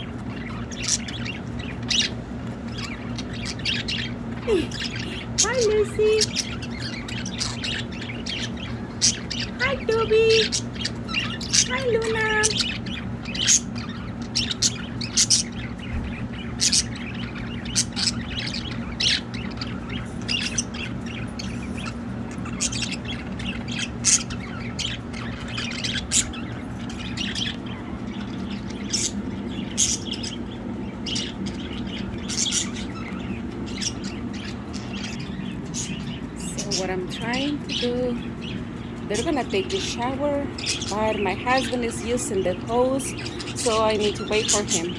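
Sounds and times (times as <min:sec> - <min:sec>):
sharp bird squawks and chirps: 0:00.0 - 0:36.9
budgerigars chattering: 0:00.0 - 0:44.9
steady low hum: 0:00.0 - 0:44.9.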